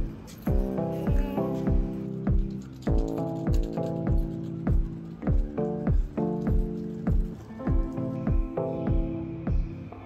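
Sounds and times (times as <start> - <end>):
kick drum beat: 0.0 - 9.8.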